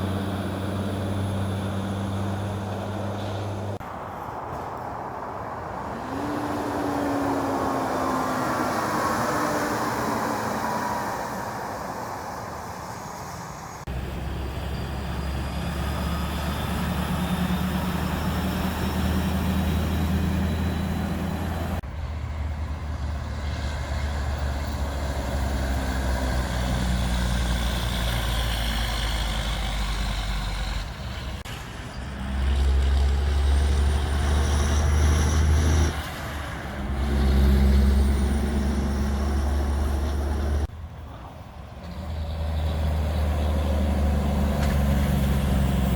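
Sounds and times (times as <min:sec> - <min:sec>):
diesel trucks driving by: 0:00.0 - 0:45.9.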